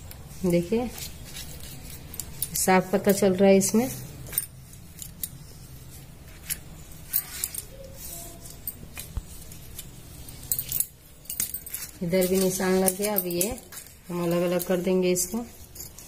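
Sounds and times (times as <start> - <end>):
glass bangles clinking: 0.1 - 16.0.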